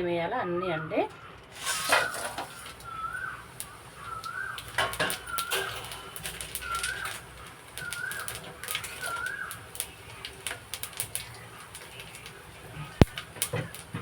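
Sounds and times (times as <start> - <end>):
bird chirping: 0.4 - 14.0
sharp clicks: 1.6 - 14.0.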